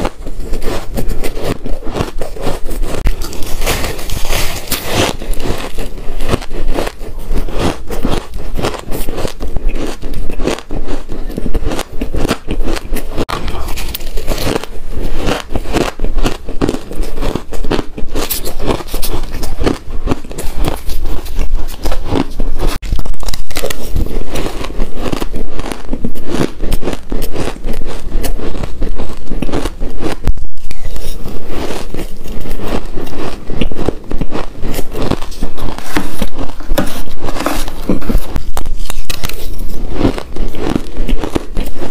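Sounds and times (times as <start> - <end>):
ice crunching in mouth: 0.0 - 41.9.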